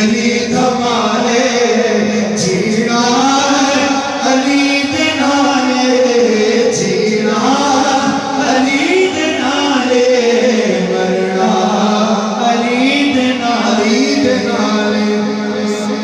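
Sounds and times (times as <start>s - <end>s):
men singing through microphones: 0.0s - 16.0s.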